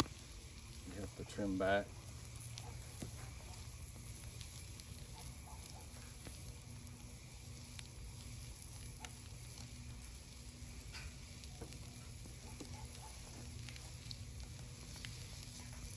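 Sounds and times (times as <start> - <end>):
kebabs sizzling on grate: 0.0 - 15.9
wood fire crackling and popping: 0.0 - 15.9.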